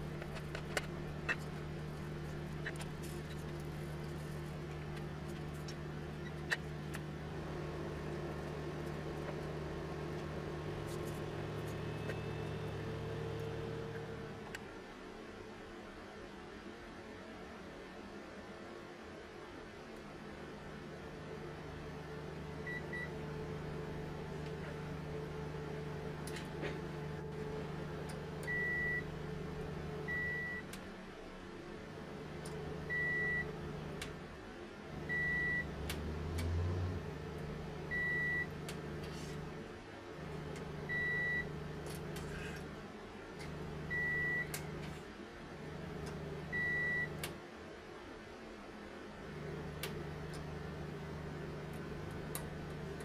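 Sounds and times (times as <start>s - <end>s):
low electrical hum: 0.0s - 53.0s.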